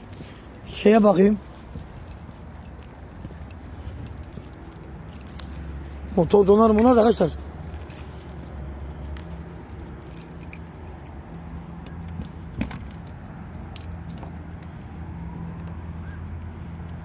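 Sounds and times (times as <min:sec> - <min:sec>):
light clicks and rattles: 0:00.0 - 0:17.0.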